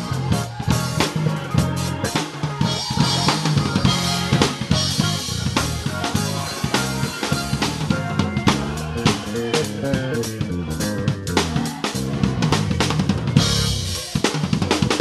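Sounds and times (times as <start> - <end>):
bass guitar line: 0.0 - 15.0
drum kit groove: 0.0 - 15.0
live band playing: 0.0 - 15.0.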